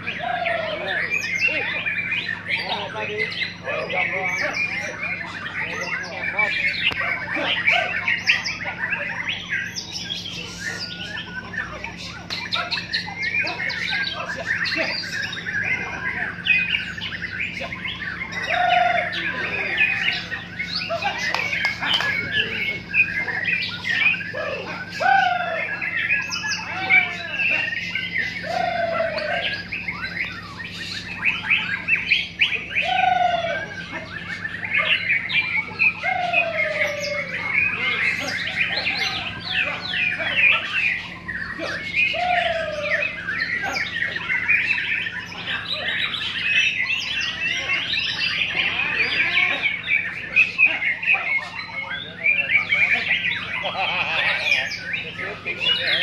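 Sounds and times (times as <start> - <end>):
birds chorus of chirps and trills: 0.0 - 56.0.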